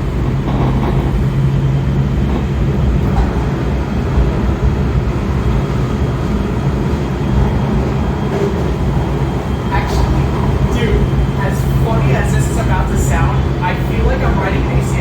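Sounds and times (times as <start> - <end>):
steady low hum: 0.0 - 15.0
subway wheels rumbling on rail: 0.0 - 15.0.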